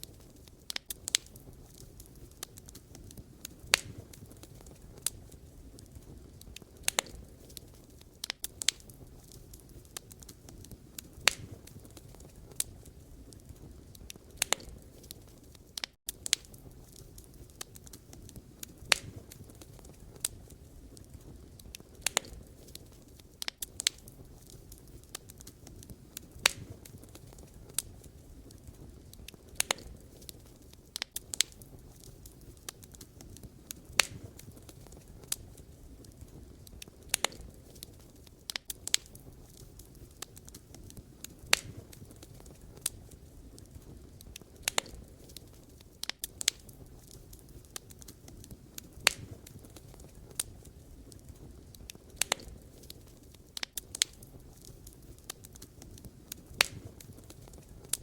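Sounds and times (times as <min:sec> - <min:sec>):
burning logs popping and snapping: 0:00.0 - 0:58.0
flames rushing: 0:00.0 - 0:58.0.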